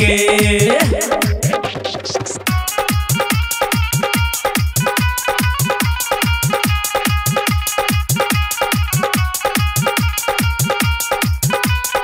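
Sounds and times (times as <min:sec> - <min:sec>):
electronic drum beat: 0:00.0 - 0:12.0
held keyboard chords: 0:00.0 - 0:12.0.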